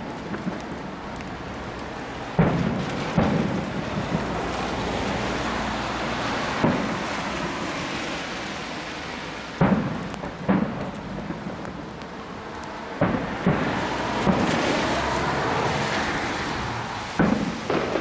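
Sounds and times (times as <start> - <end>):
fireworks booming: 0.0 - 8.1, 9.5 - 12.3, 12.9 - 16.3, 17.1 - 18.0.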